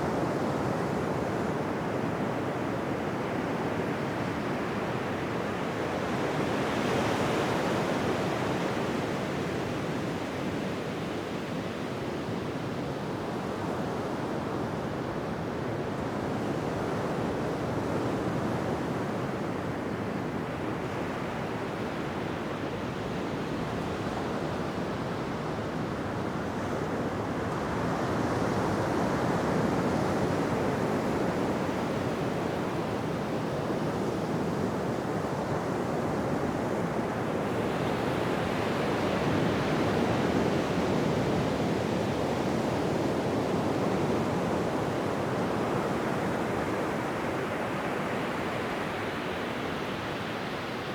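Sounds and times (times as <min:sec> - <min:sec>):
waves breaking on a beach: 0:01.4 - 0:50.9.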